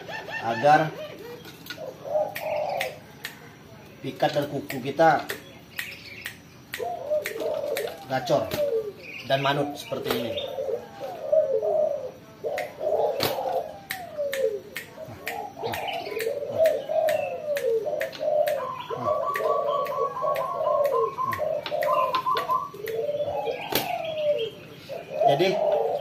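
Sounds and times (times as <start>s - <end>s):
dove cooing: 0.0s - 3.2s, 6.8s - 26.0s.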